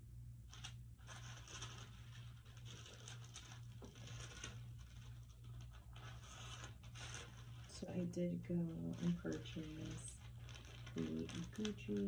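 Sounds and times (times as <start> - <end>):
steady low hum: 0.0 - 12.0
tissue paper rustling: 0.5 - 12.0.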